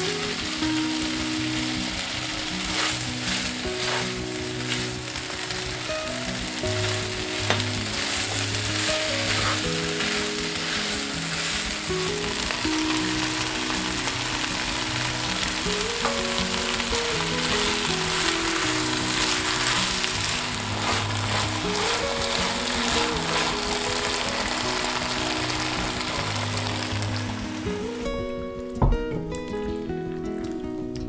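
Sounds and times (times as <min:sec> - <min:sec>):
background music: 0:00.0 - 0:31.0
food sizzling in a frying pan: 0:00.0 - 0:31.0.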